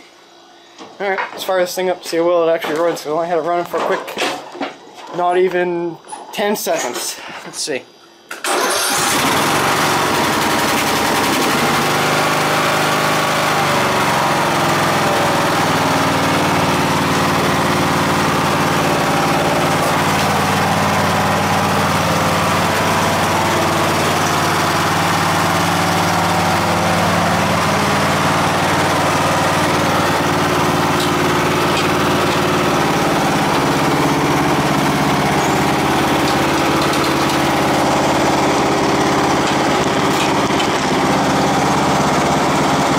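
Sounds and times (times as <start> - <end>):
lawn tractor engine running: 8.4 - 42.9.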